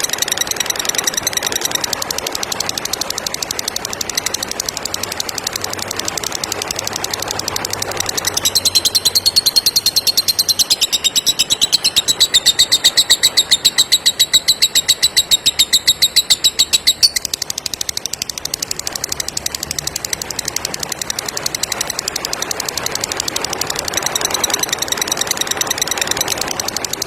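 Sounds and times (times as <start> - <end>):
lovebird chattering: 0.0 - 27.0.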